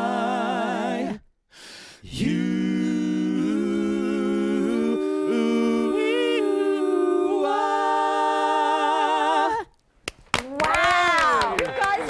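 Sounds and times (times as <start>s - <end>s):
a cappella vocal harmony: 0.0s - 9.8s.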